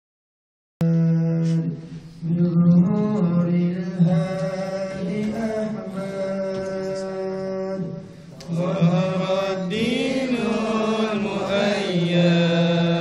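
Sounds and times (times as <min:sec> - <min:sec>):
man chanting melodic recitation: 0:00.8 - 0:13.0.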